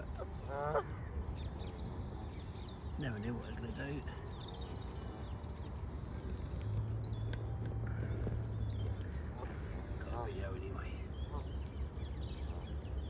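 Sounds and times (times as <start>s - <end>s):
low outdoor rumble: 0.0s - 13.0s
songbirds chirping: 0.0s - 13.0s.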